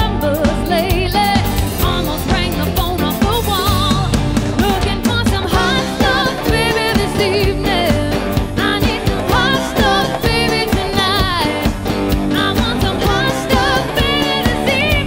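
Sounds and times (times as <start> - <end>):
band playing: 0.0 - 15.0
person singing with vibrato: 0.0 - 15.0
steady drum beat: 0.0 - 15.0.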